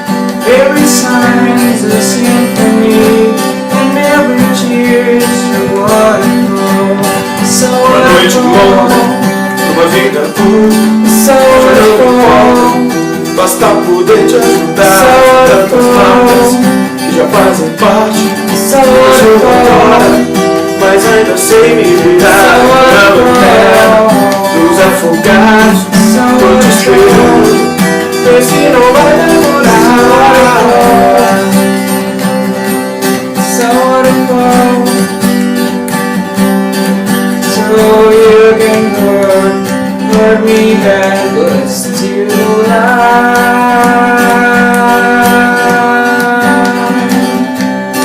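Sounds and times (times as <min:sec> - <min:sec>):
acoustic guitar playing: 0:00.0 - 0:48.0
wordless singing: 0:00.4 - 0:32.2, 0:33.2 - 0:35.2, 0:37.4 - 0:47.6.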